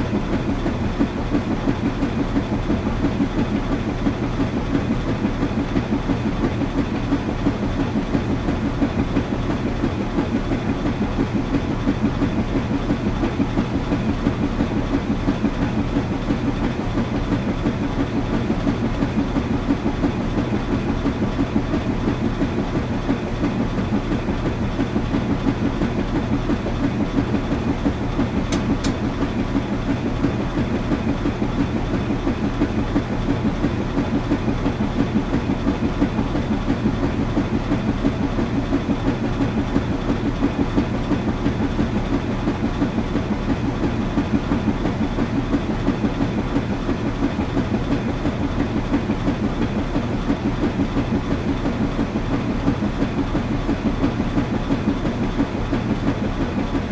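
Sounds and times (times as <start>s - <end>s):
washing machine running: 0.0s - 56.9s.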